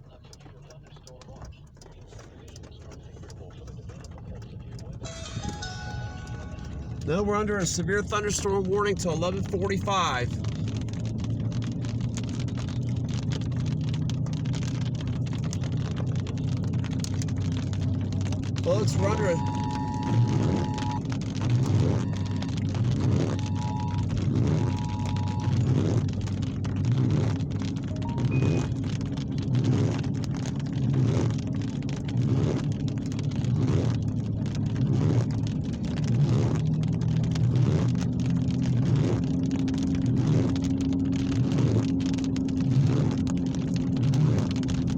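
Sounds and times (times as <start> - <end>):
constant low hum: 0.0 - 44.9
rain drops tapping hard surface: 0.0 - 44.9.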